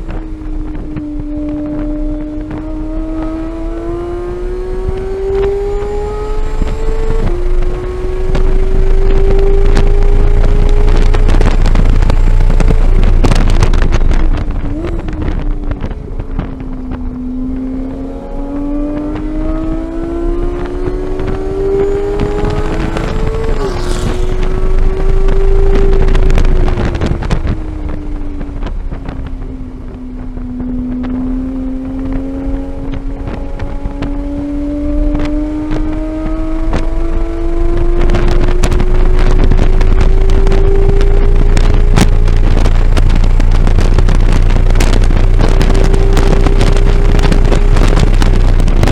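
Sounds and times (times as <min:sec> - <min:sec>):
sports car engine revving: 0:00.0 - 0:48.9
wind noise: 0:00.0 - 0:48.9.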